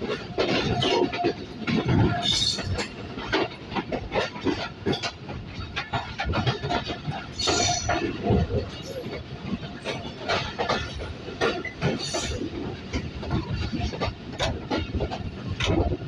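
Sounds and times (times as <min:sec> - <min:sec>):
train rolling rumble: 0:00.0 - 0:16.0
train wheels clacking: 0:00.0 - 0:16.0.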